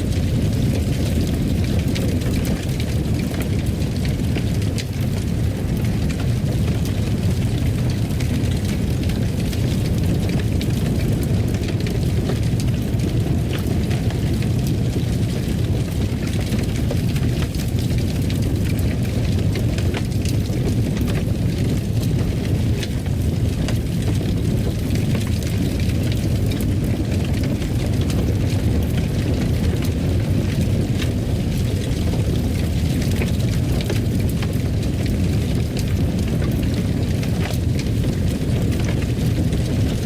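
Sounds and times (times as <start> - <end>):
fire crackles and pops: 0.0 - 40.0
fire rumbling in fireplace: 0.0 - 40.0.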